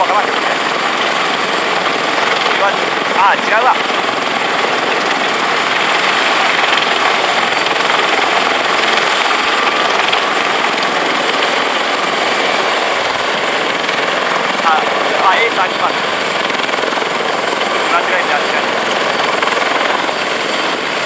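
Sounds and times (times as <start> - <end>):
jet engines rushing: 0.0 - 21.0.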